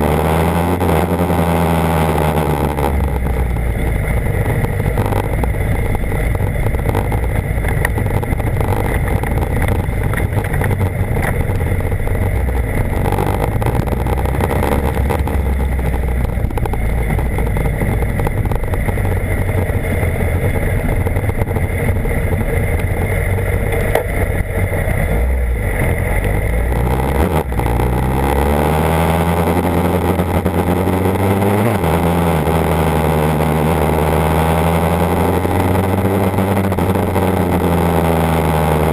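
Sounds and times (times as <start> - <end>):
motorcycle engine accelerating: 0.0 - 38.9
wind and road noise: 0.0 - 38.9.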